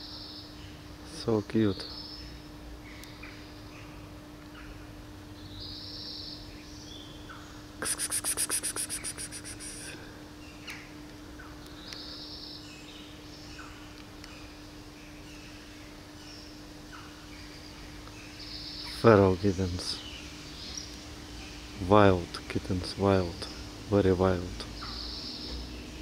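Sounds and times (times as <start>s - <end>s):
birds chirping: 0.0s - 26.0s
rapid rattling bird trill: 0.0s - 26.0s
steady low hum: 0.0s - 26.0s.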